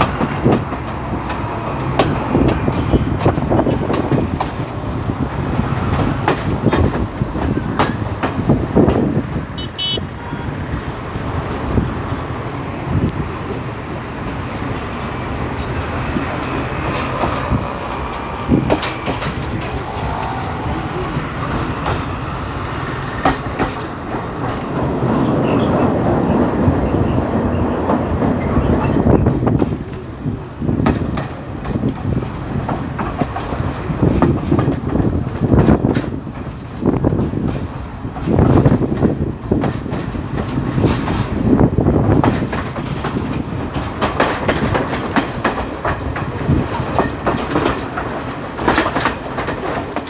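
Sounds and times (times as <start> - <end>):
wheels clattering over rail joints: 0.0 - 9.6, 10.5 - 50.0
train rumbling on rails: 0.0 - 50.0.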